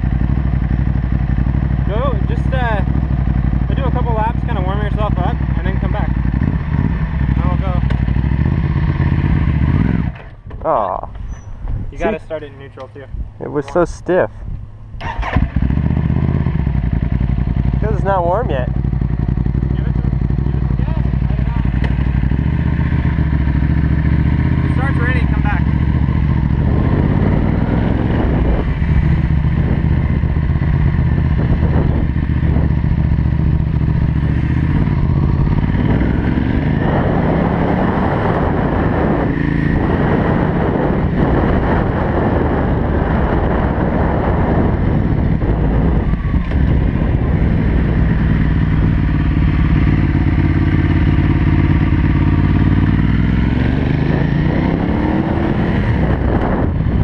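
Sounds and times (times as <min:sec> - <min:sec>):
motorcycle engine riding: 0:00.0 - 0:57.0.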